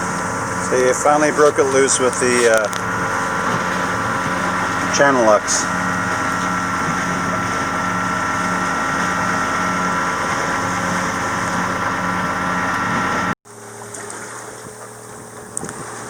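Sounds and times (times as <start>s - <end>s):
machinery droning: 0.0s - 16.0s.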